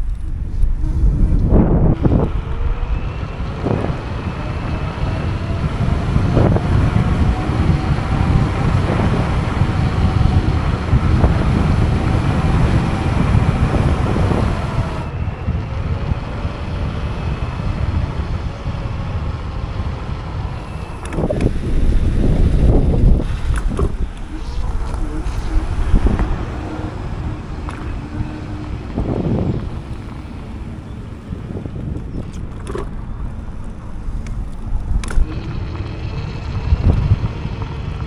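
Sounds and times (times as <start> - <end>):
electric motor whine: 0.0 - 32.4, 33.0 - 38.0
road rumble: 0.0 - 38.0
wind on microphone: 0.0 - 38.0.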